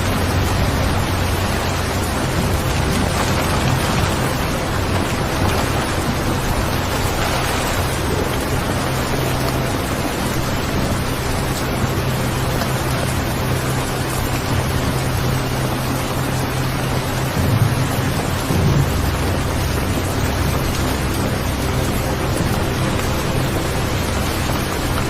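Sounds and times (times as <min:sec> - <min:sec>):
falling rain hiss: 0:00.0 - 0:25.0
low steady rumble: 0:00.0 - 0:25.0.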